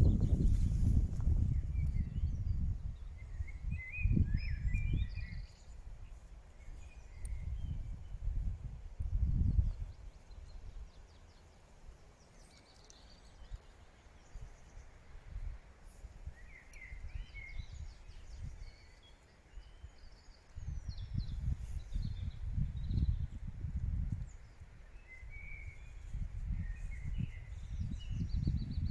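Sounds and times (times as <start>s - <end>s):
wind rumbling on microphone: 0.0s - 11.4s, 13.3s - 19.0s, 19.6s - 28.9s
songbirds chirping: 0.0s - 28.9s.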